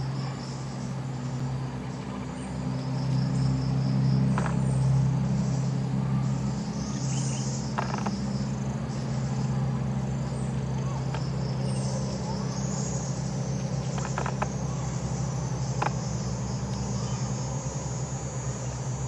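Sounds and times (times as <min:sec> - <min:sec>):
bird calls: 0:00.0 - 0:19.0
high-pitched insect chorus: 0:00.0 - 0:19.0
low steady hum: 0:00.0 - 0:19.0.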